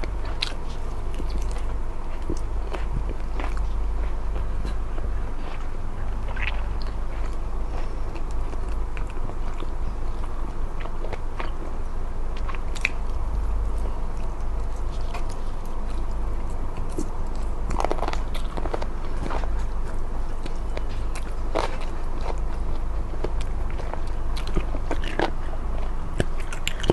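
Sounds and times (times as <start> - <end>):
close chewing and biting: 0.0 - 26.9
mouth clicks and crunches: 0.0 - 26.9
steady low hum: 0.0 - 26.9.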